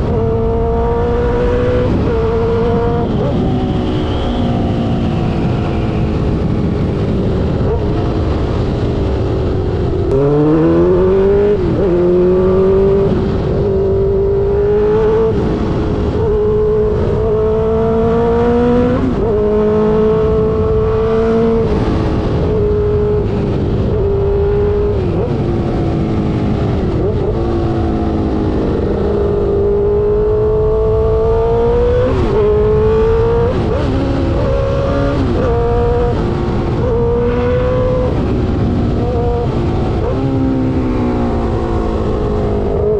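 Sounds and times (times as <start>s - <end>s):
motorcycle engine at high revs: 0.0s - 42.9s.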